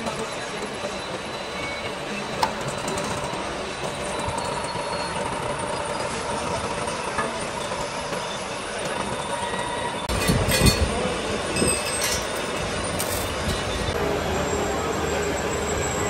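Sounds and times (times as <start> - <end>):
machinery noise with whine: 0.0 - 16.0.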